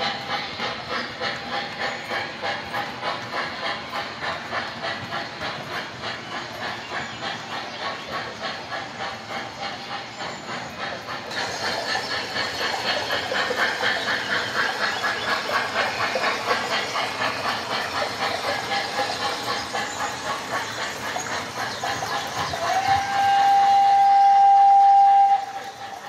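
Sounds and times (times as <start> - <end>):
model steam locomotive chuffing: 0.0 - 26.0
wheels running on track: 0.0 - 26.0.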